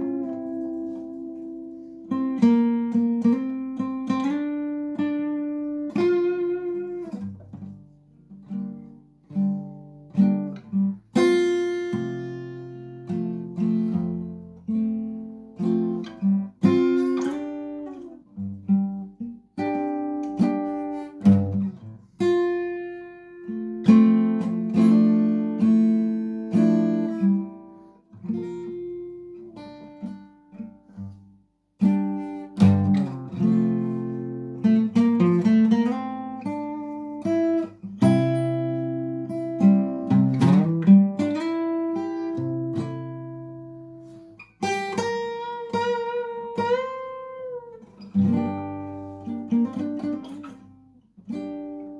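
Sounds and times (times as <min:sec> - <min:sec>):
acoustic guitar chords: 0:00.0 - 0:51.9.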